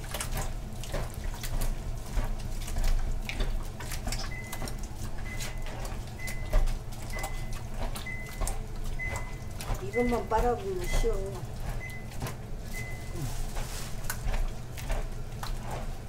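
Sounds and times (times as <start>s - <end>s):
wet squishing of seaweed kneaded: 0.0s - 16.0s.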